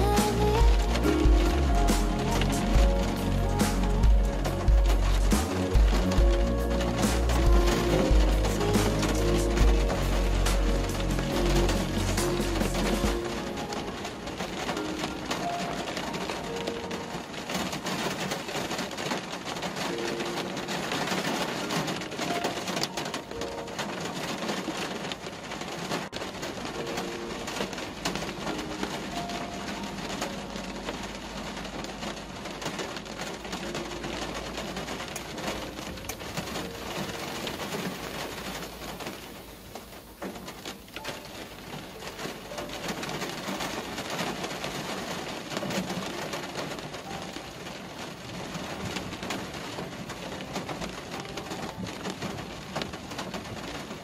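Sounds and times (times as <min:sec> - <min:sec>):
rain on car windscreen: 0:00.0 - 0:54.0.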